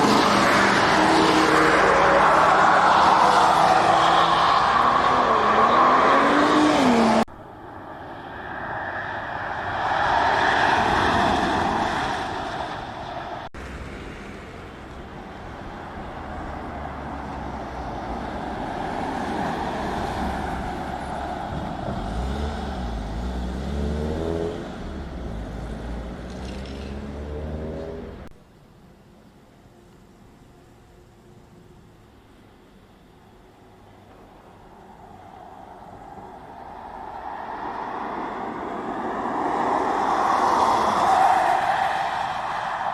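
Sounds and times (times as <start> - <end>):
car passing with tyre and wind noise: 0.0 - 42.9.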